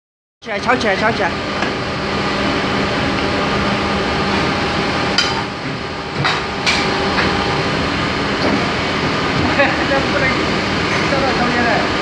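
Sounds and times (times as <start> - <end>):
machine humming: 0.4 - 12.0.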